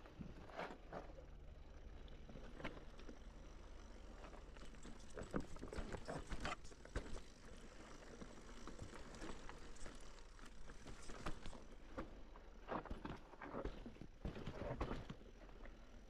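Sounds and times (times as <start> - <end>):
bike clattering over rough trail: 2.7 - 15.8.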